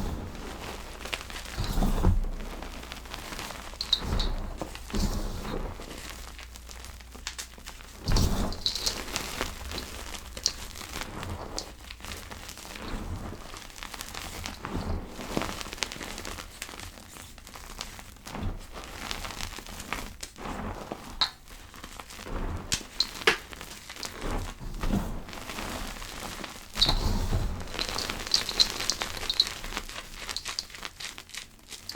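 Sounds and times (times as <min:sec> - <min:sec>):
powder crackling and crunching: 0:00.0 - 0:31.9.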